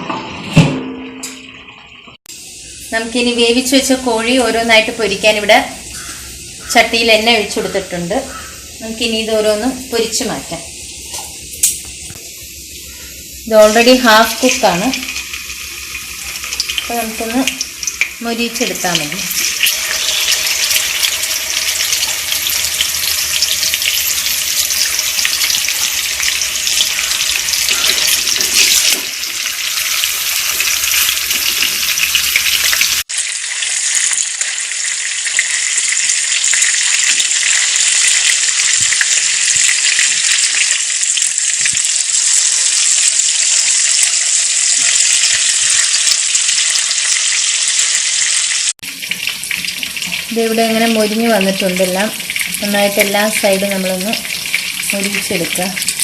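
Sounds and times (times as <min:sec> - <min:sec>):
chicken sizzling in hot oil: 0:00.3 - 0:56.0.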